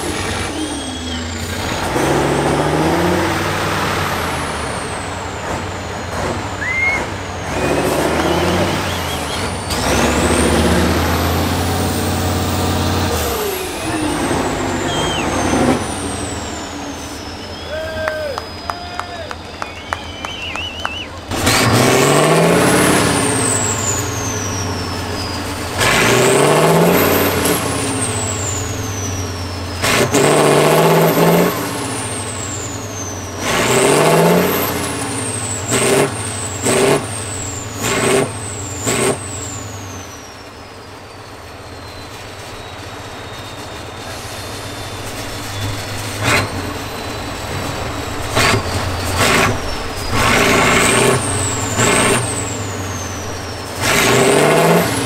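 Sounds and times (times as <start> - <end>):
high turbo whistle: 0.0 - 5.8, 6.4 - 55.0
diesel truck engine revving: 0.0 - 55.0.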